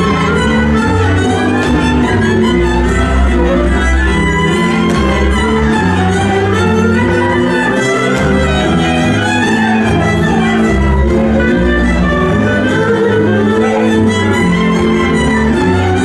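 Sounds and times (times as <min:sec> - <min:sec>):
fiddle-led folk dance music: 0:00.0 - 0:16.0.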